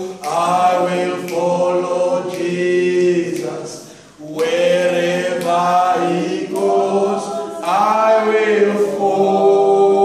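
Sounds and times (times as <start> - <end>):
man singing gospel unaccompanied: 0.0 - 10.0.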